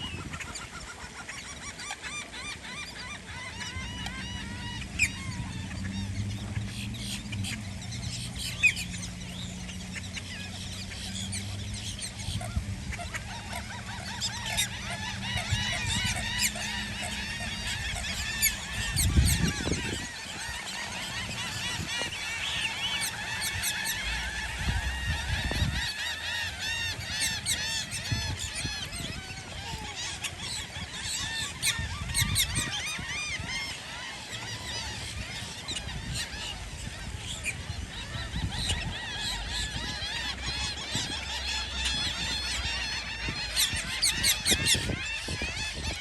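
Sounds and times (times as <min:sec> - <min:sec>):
wind rumble on microphone: 0:00.0 - 0:01.2, 0:02.4 - 0:46.0
geese honking: 0:00.0 - 0:46.0.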